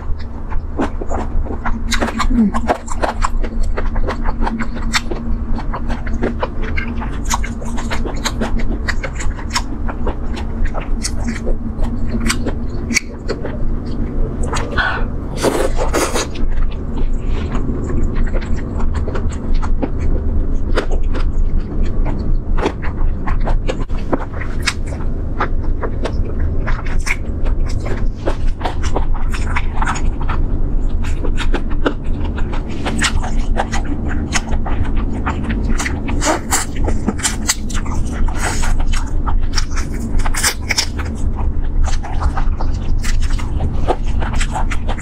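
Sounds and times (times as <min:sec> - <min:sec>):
steady low hum: 0:00.0 - 0:45.0
wet chewing mouth sounds: 0:00.0 - 0:45.0.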